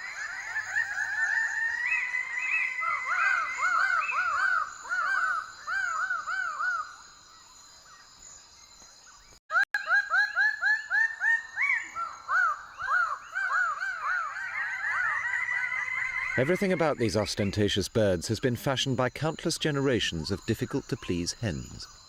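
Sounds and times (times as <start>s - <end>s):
birds calling with repeated notes: 0.0s - 22.0s.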